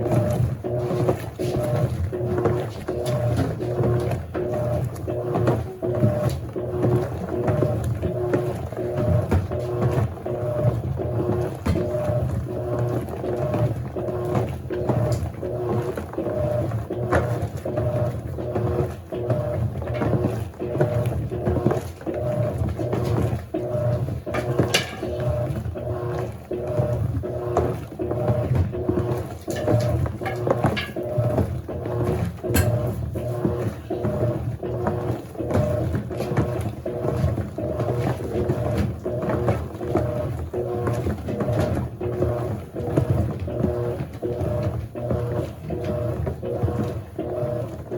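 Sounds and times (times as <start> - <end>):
rumble of drum and water: 0.0 - 47.9
washing machine agitating: 0.0 - 47.9.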